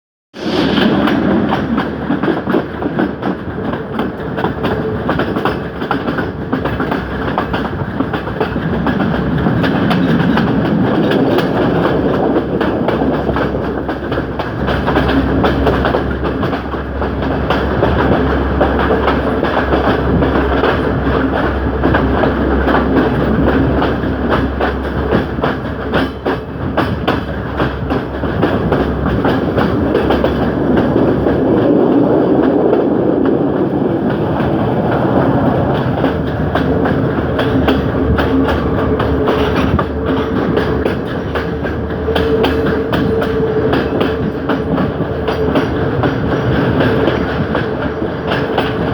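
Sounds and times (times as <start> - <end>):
train rumble: 0.3 - 48.9
train wheels clattering on rails: 0.3 - 48.9.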